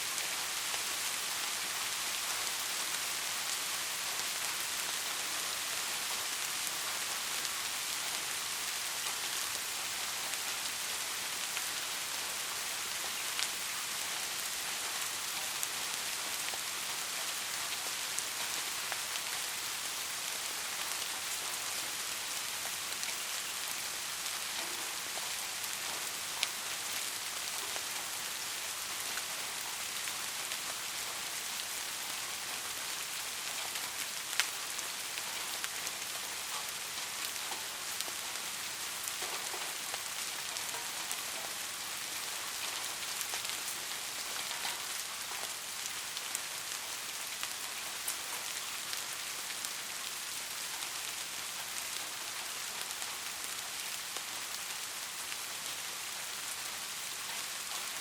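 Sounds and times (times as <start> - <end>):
soft rain hiss: 0.0 - 58.0.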